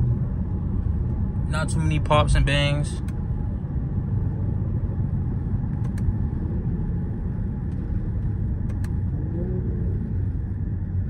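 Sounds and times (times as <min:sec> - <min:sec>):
engine and road rumble in cabin: 0:00.0 - 0:11.0.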